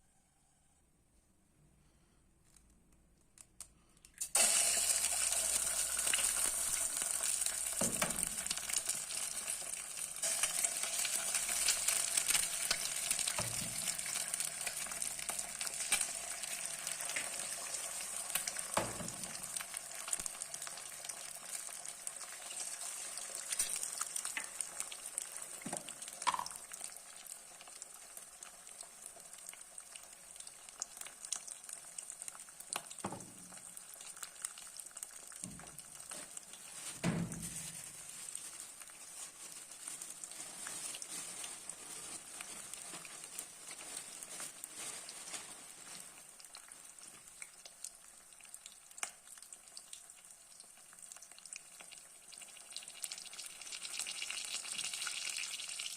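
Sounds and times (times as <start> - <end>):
food sizzling in oil: 4.3 - 55.9.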